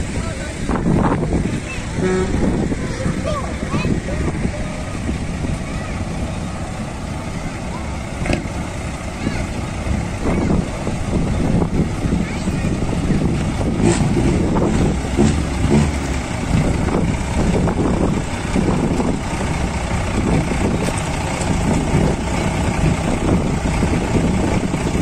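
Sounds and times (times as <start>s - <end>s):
heavy engine running: 0.0s - 25.0s
road noise: 0.0s - 25.0s
wind buffeting microphone: 0.0s - 25.0s.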